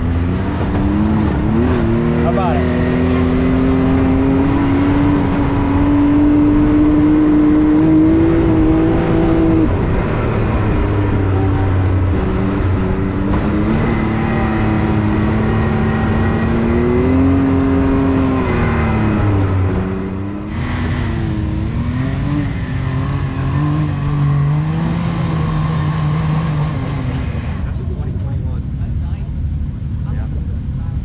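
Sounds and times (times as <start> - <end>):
engine running hard: 0.0 - 31.0.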